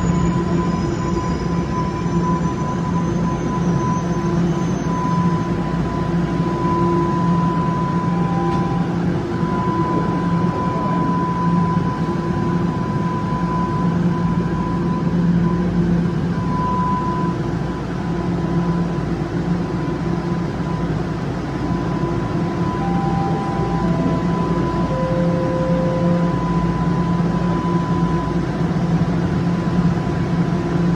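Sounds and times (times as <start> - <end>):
subway train running: 0.0 - 30.9.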